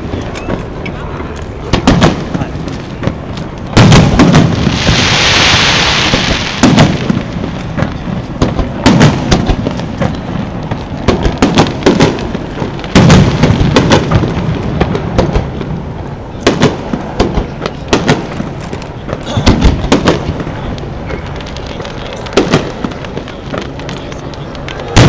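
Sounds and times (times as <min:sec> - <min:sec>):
firework pops and crackles: 0:00.0 - 0:15.8, 0:16.4 - 0:25.0
firework booms: 0:01.5 - 0:25.0
firework hiss: 0:01.6 - 0:25.0.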